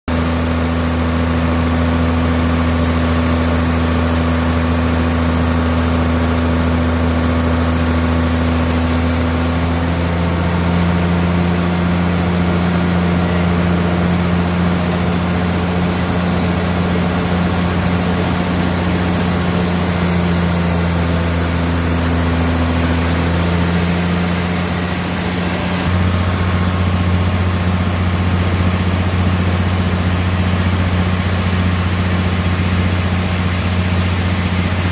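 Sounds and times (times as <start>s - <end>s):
bandsaw machinery running: 0.1s - 34.9s.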